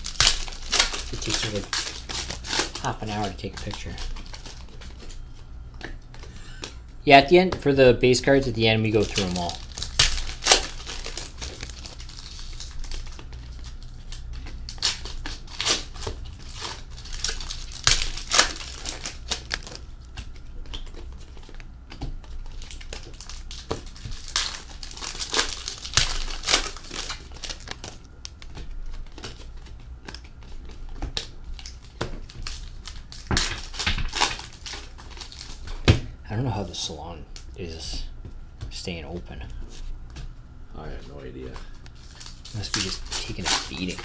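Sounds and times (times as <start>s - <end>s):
crinkling: 0.0s - 6.8s, 8.6s - 35.8s, 40.9s - 44.0s.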